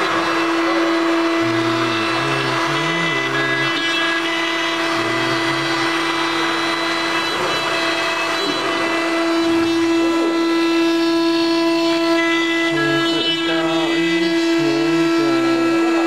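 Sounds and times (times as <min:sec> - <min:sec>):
router motors whining and humming: 0:00.0 - 0:16.0.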